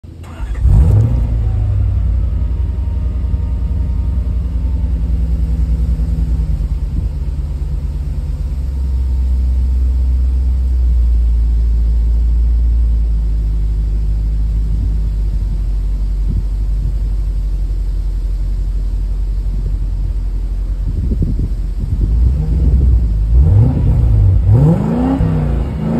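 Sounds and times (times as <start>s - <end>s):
car engine starting and idling: 0.0s - 25.9s.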